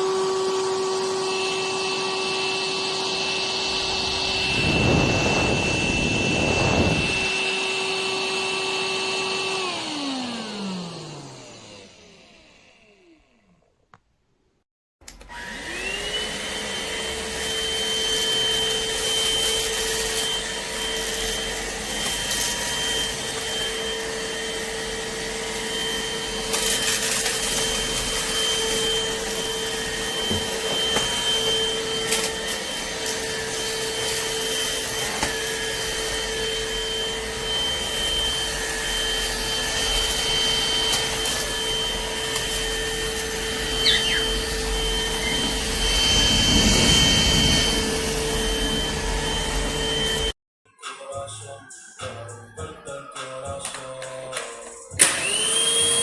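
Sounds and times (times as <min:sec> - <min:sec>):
stick vacuum motor whine: 0:00.0 - 0:13.6, 0:15.0 - 0:50.4, 0:53.6 - 0:56.0.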